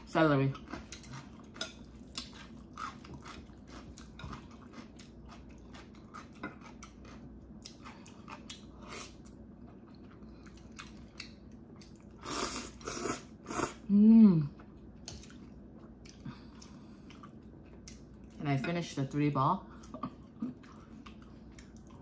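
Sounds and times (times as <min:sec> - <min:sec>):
person chewing noodles: 0:00.5 - 0:13.8, 0:14.5 - 0:18.4, 0:19.7 - 0:22.0.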